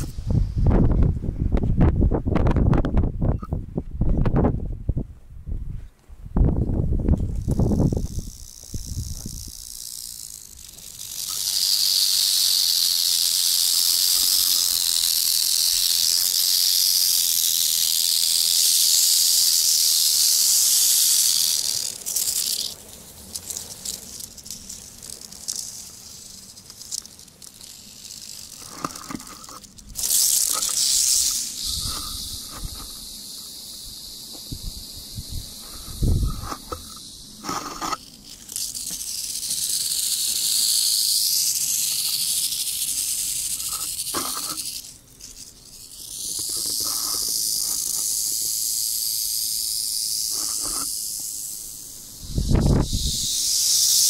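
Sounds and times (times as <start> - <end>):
rattlesnakes rattling: 0.0 - 1.5, 6.5 - 54.0.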